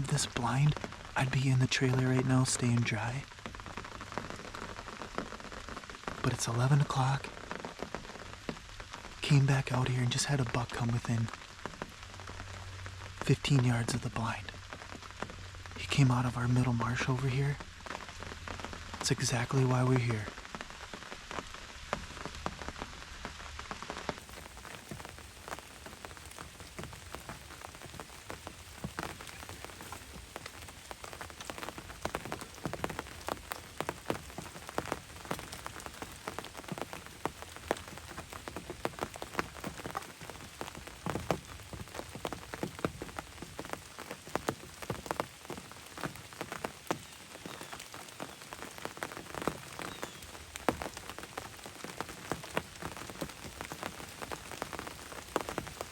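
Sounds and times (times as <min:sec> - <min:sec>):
rain drops tapping on a blind: 0:00.0 - 0:55.9.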